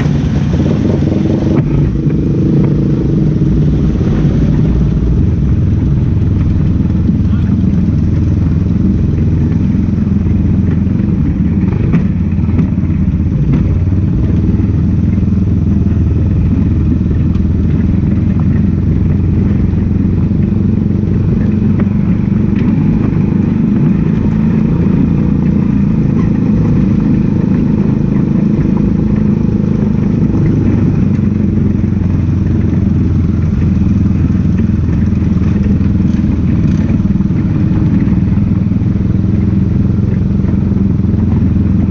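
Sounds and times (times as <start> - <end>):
race car engine running: 0.0 - 41.9.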